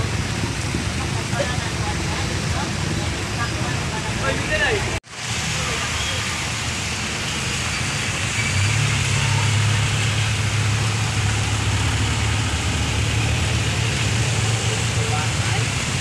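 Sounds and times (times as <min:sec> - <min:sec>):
hiss of rain and water: 0:00.0 - 0:16.0
vehicle engine humming: 0:00.0 - 0:16.0.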